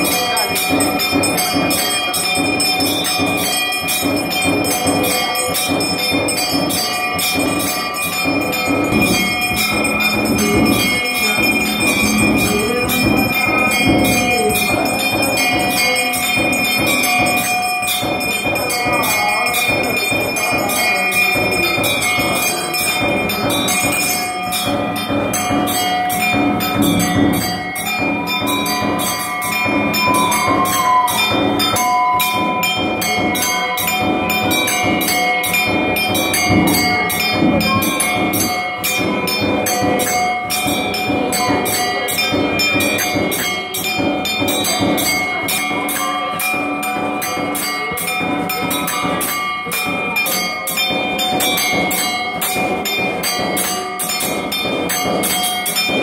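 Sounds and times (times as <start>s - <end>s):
brass temple bells ringing: 0.0s - 56.0s
music: 0.0s - 56.0s.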